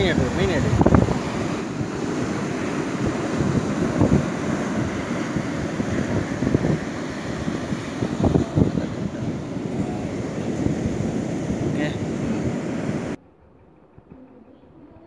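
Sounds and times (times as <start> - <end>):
surf washing on beach: 0.0 - 13.2
wind buffeting microphone: 0.0 - 15.0.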